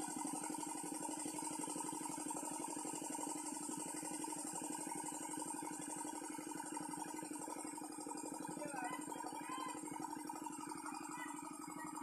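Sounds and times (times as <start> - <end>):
small water pump engine running: 0.0 - 12.0.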